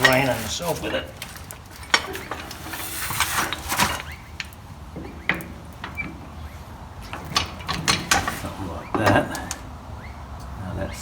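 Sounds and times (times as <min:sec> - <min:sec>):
metal knocks and scrapes: 0:00.0 - 0:09.6.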